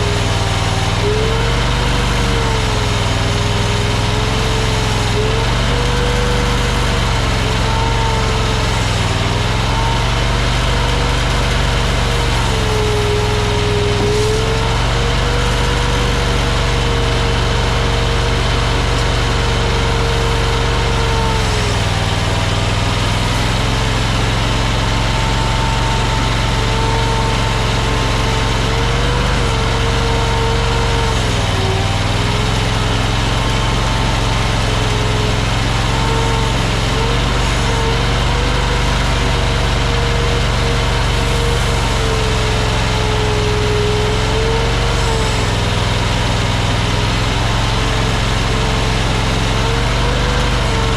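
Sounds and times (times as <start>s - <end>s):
skid steer engine whining: 0.0s - 50.9s.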